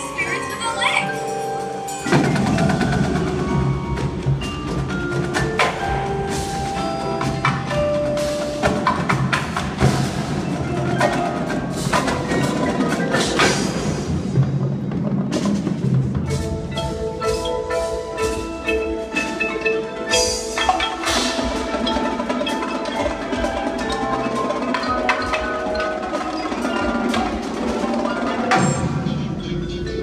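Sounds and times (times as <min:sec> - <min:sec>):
marimba melody: 0:00.0 - 0:30.0
drum strikes: 0:01.6 - 0:30.0.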